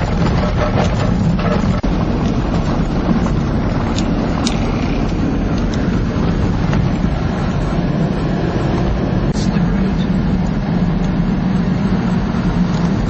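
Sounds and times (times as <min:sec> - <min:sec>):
vehicle rumble: 0:00.0 - 0:13.0
wind noise on microphone: 0:00.0 - 0:13.0.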